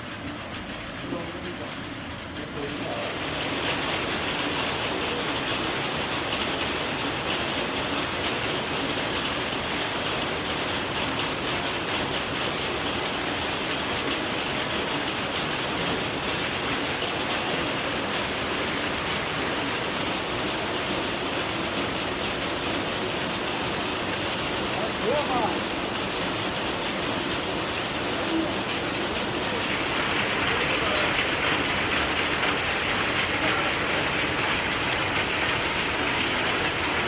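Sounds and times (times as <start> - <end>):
machinery clattering: 0.0 - 37.0.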